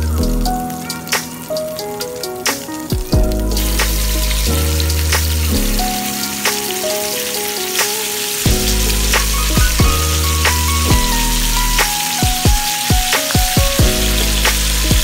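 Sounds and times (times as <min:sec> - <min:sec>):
background music with bass: 0:00.0 - 0:06.9, 0:08.4 - 0:15.0
meat sizzling in oil: 0:00.0 - 0:15.0
oil popping and spattering: 0:00.0 - 0:15.0.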